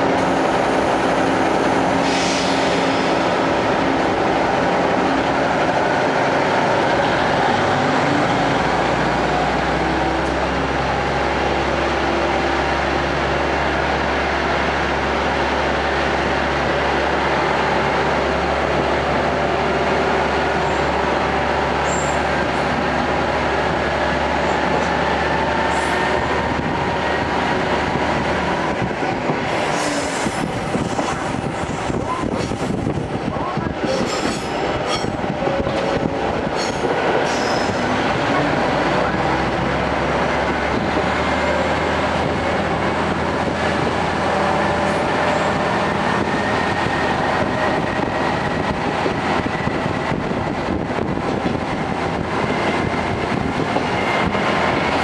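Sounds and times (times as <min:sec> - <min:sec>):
railcar engine drone: 0:00.0 - 0:55.0.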